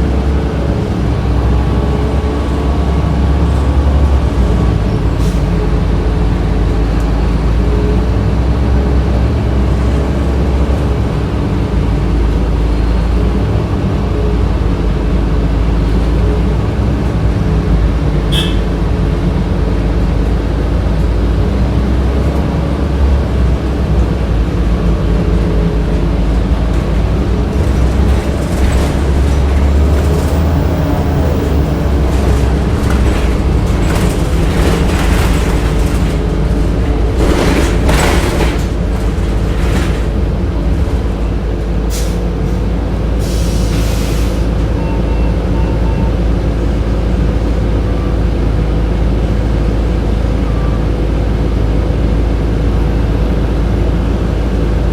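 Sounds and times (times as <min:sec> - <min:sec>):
bus body rattling over road: 0:00.0 - 0:54.9
bus hvac and drivetrain drone: 0:00.0 - 0:54.9
low road rumble: 0:00.0 - 0:54.9.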